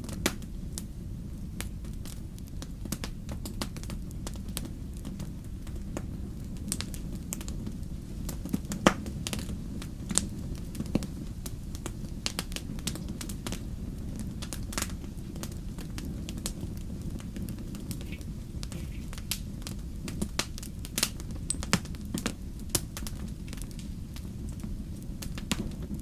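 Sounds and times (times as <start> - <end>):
campfire pops and snaps: 0.0 - 0.9, 1.6 - 26.0
campfire low rumble: 0.0 - 26.0.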